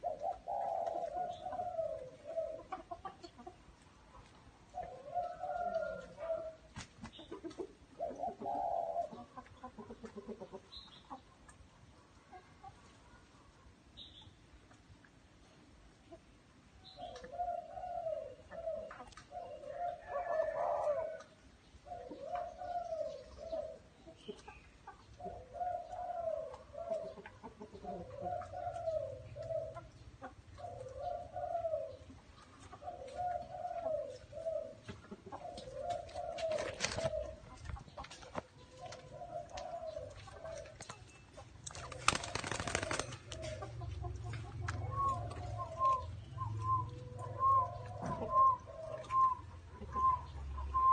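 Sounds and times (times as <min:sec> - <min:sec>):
dove cooing: 0:00.0 - 0:03.4, 0:04.7 - 0:10.7, 0:16.9 - 0:24.1, 0:24.8 - 0:50.9.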